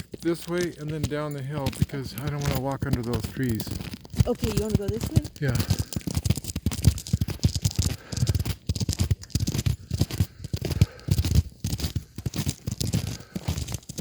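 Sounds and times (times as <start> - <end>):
footsteps crunching on ice: 0.0 - 14.0.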